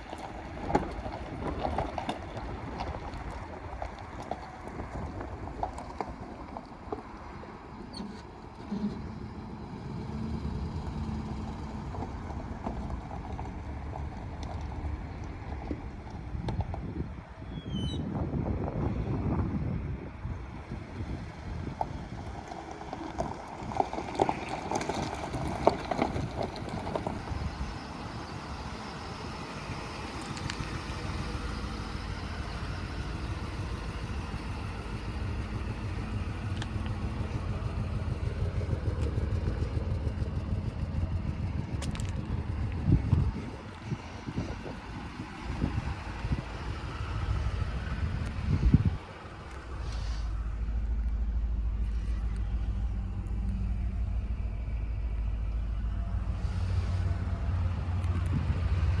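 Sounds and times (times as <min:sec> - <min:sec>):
pickup engine humming: 0:00.0 - 0:59.0.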